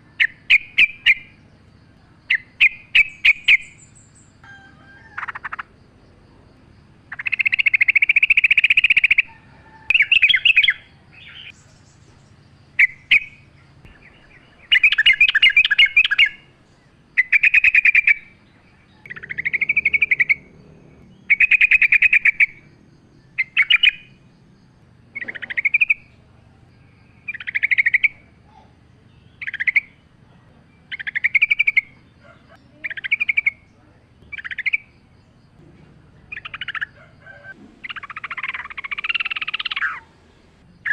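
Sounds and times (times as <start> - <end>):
bulbul singing chattering phrases: 0.0 - 4.4, 5.1 - 40.9
faint low hum: 0.0 - 8.2, 8.8 - 40.9.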